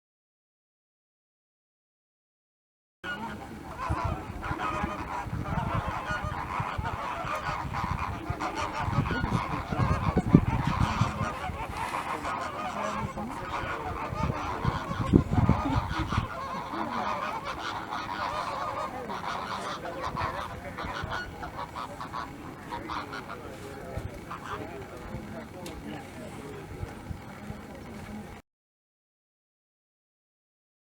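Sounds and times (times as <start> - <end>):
flamingos honking and gabbling: 3.0 - 28.4.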